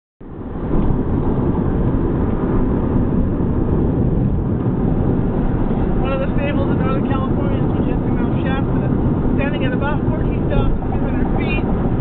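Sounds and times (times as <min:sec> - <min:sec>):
car road noise at highway speed: 0:00.2 - 0:12.0.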